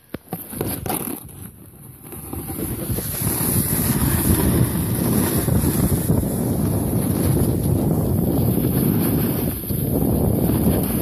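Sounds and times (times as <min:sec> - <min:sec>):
snowboard sliding on snow: 0:00.3 - 0:11.0
wind rushing over microphone: 0:00.6 - 0:11.0.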